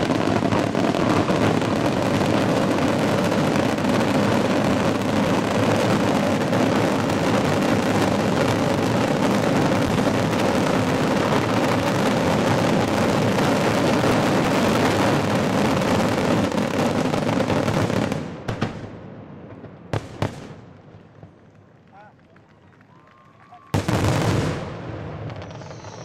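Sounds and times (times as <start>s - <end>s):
fireworks bangs and crackling: 0.0s - 22.2s, 23.0s - 26.0s.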